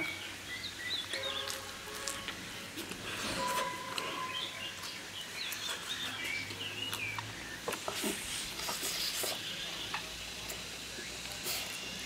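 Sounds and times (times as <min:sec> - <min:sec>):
small birds chirping: 0:00.0 - 0:02.6, 0:03.2 - 0:12.0.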